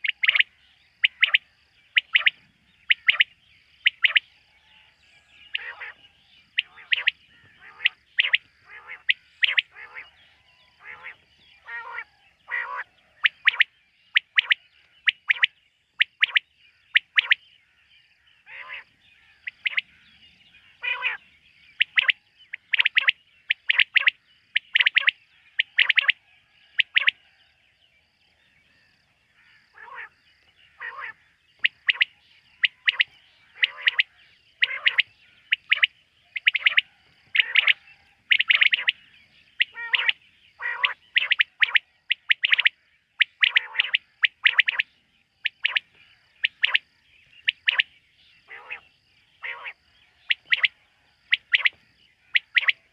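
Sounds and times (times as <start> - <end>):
quail calling: 0.0 - 4.9, 5.5 - 17.4, 18.4 - 27.2, 29.4 - 46.8, 47.4 - 52.9.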